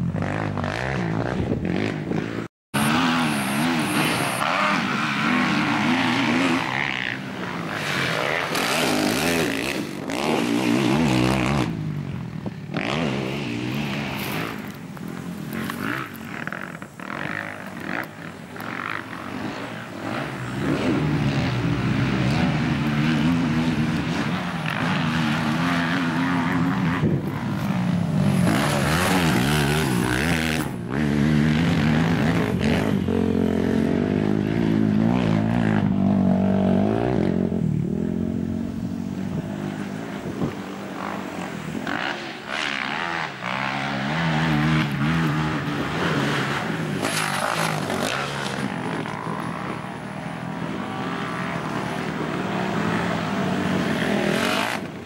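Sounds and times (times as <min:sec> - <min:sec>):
quad engines revving hard: 0:00.0 - 0:55.0.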